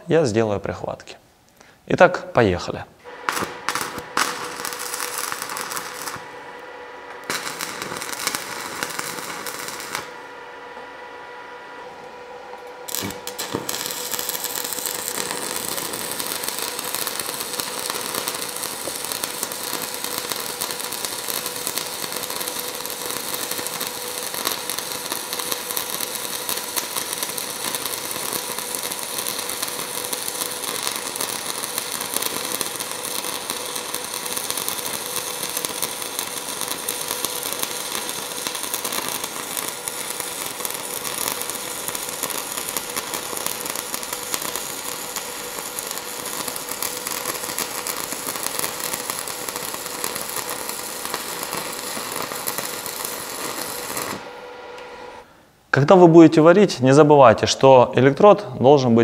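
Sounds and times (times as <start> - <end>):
welding arc crackling: 3.0 - 10.9, 11.8 - 55.3.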